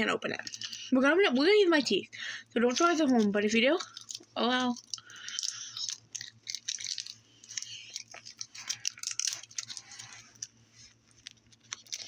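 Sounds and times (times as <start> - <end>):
plastic wrapper crinkling: 0.0 - 0.9, 2.6 - 12.0.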